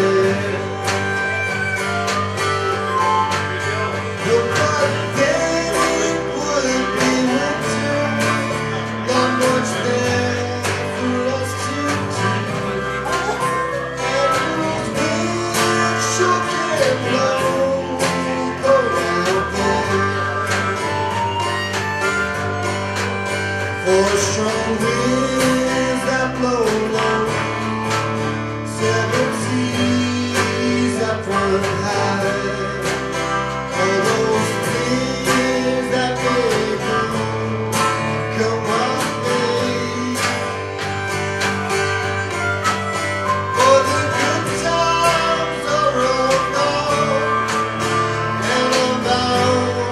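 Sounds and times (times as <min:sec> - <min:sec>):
acoustic guitars playing: 0:00.0 - 0:49.9
held melody line: 0:00.0 - 0:49.9.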